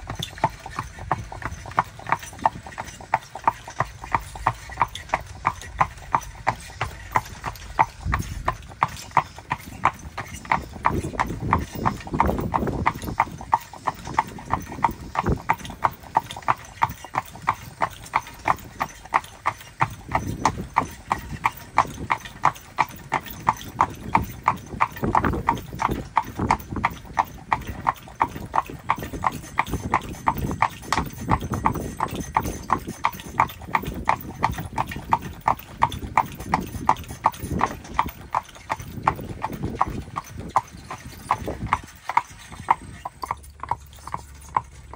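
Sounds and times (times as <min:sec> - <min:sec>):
horse hooves clip-clopping: 0:00.0 - 0:44.9.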